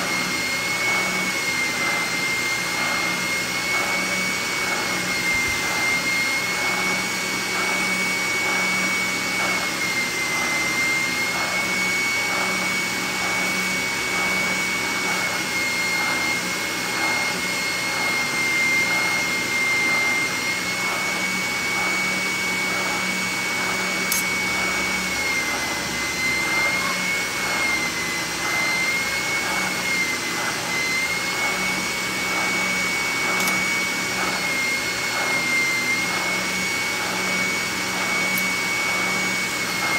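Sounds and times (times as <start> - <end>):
steel blade grinding on sander: 0.0 - 21.2, 22.0 - 39.9
spindle sander whine: 0.0 - 39.9.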